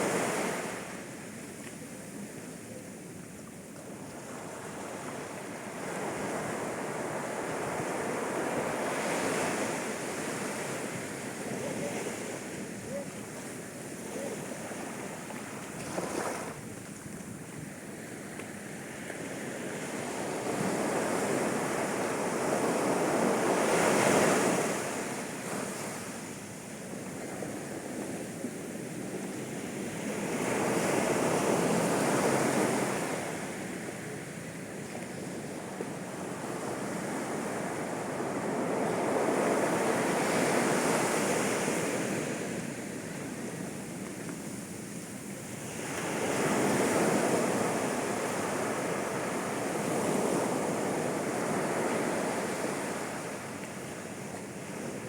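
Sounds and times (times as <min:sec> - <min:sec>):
sea waves breaking on beach: 0:00.0 - 0:02.2, 0:03.9 - 0:34.6, 0:35.2 - 0:55.0.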